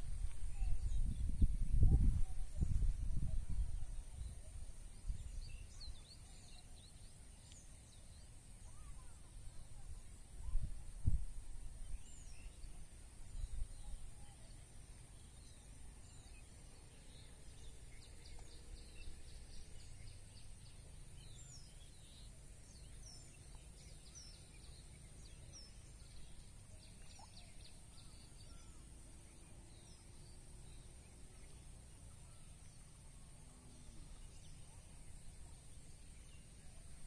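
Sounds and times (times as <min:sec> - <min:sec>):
faint bird chirps: 0:00.0 - 0:37.0.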